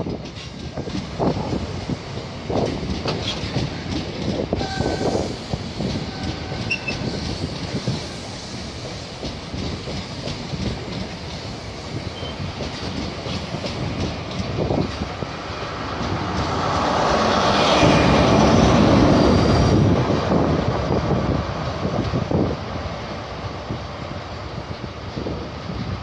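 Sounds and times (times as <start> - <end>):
train coaches rumbling past: 0.0 - 26.0.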